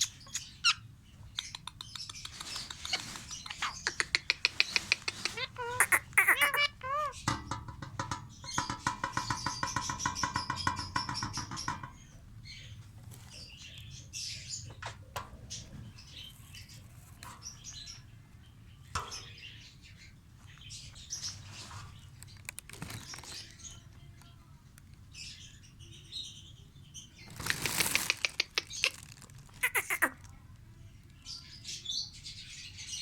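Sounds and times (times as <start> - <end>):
parrots chirping and chattering: 0.0 - 24.3, 25.1 - 30.4.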